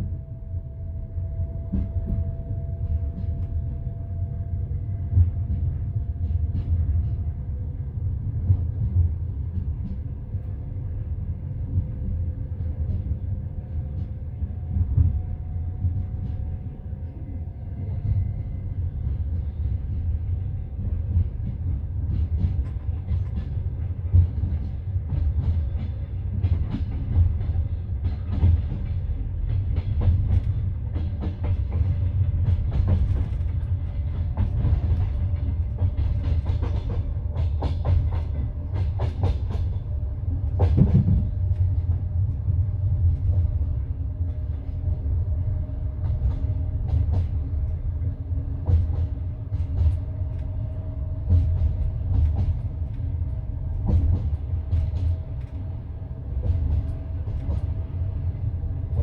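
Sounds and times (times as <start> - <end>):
train coach low rumble: 0.0 - 59.0.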